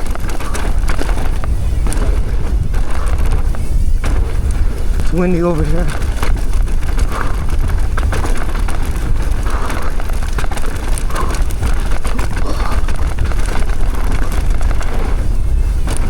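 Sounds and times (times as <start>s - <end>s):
bike clicks and rattles: 0.0s - 16.0s
bike tyres on dirt trail: 0.0s - 16.0s
wind buffeting microphone: 0.0s - 16.0s.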